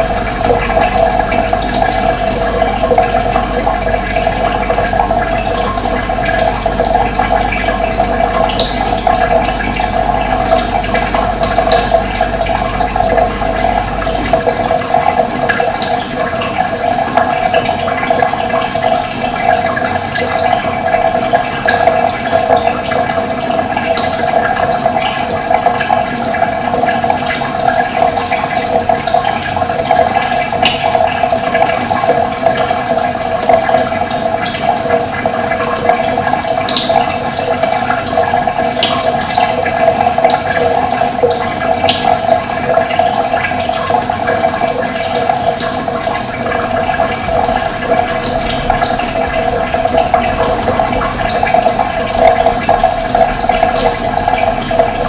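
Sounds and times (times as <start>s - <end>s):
running water: 0.0s - 55.0s.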